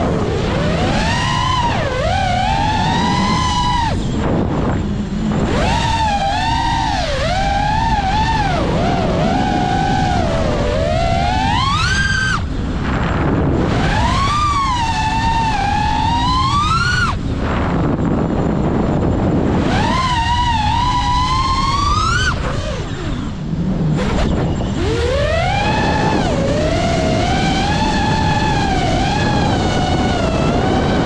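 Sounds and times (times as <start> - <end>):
drone motors whining: 0.0 - 31.0
rush of air and wind: 0.0 - 31.0.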